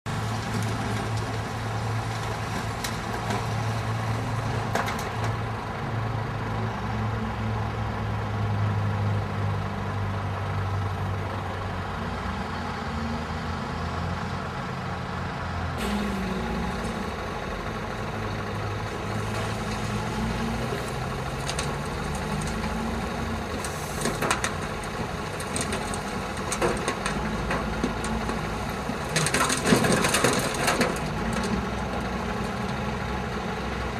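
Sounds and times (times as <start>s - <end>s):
diesel truck engine running: 0.1s - 33.9s.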